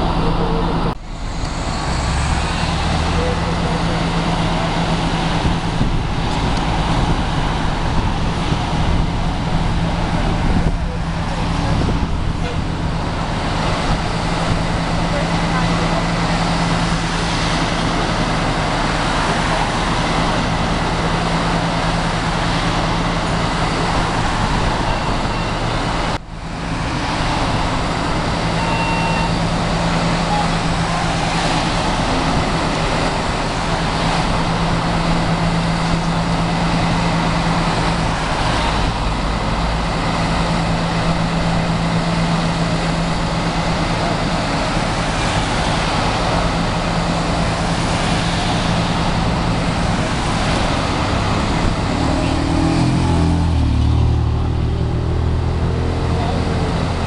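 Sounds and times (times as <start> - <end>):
low engine drone: 0.0 - 57.0
vehicles passing close by: 0.0 - 57.0.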